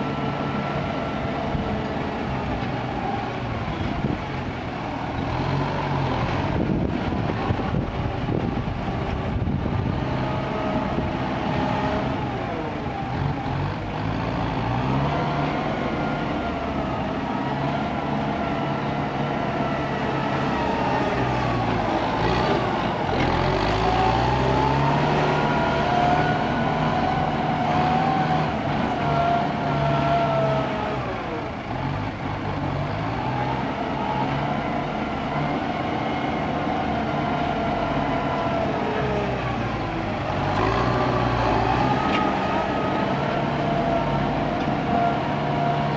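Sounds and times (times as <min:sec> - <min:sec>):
diesel truck engines revving: 0:00.0 - 0:45.9.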